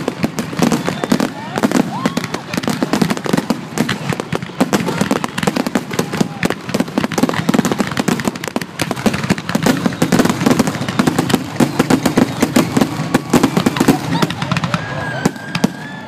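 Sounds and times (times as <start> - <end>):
fireworks popping and crackling: 0.0 - 16.0.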